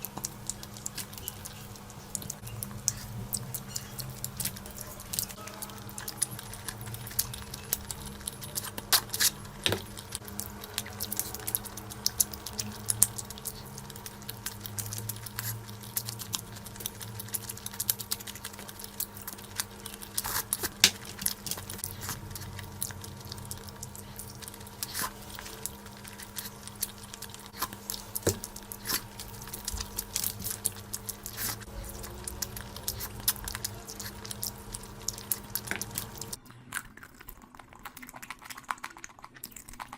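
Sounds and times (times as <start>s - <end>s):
faint steady hum: 0.0s - 39.9s
wet chewing clicks and smacks: 0.0s - 39.9s.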